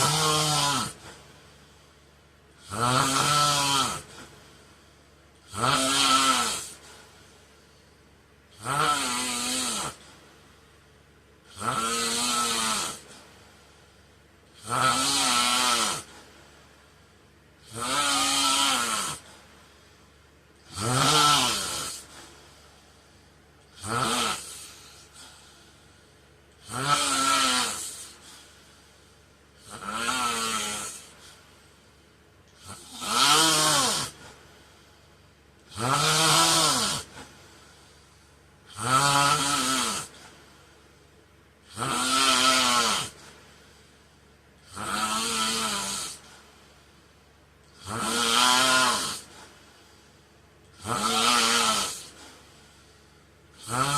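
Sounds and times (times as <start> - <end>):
man snoring: 0.0 - 7.8, 8.5 - 10.5, 11.4 - 16.7, 17.6 - 20.0, 20.6 - 31.6, 32.5 - 34.9, 35.6 - 40.9, 41.6 - 46.8, 47.6 - 53.9.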